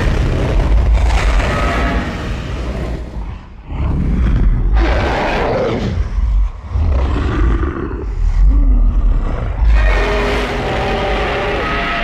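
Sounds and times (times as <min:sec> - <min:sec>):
monster roar: 0:00.0 - 0:12.0.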